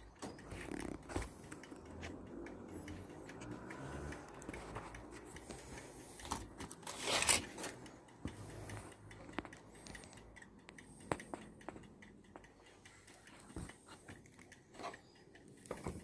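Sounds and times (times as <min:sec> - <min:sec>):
light clicks and taps: 0:00.0 - 0:16.0.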